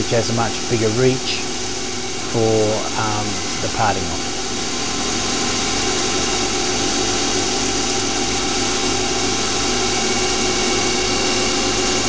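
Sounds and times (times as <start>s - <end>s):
lathe motor humming and whining: 0.0s - 12.0s.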